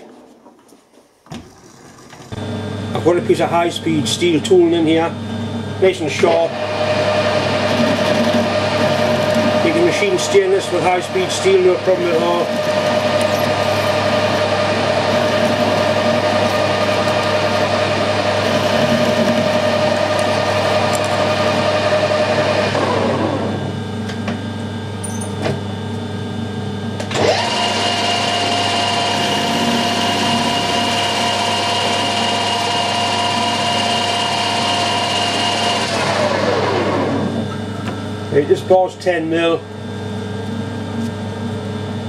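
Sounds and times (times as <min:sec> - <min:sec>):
lathe motor whining: 0:01.2 - 0:23.8, 0:27.0 - 0:38.4.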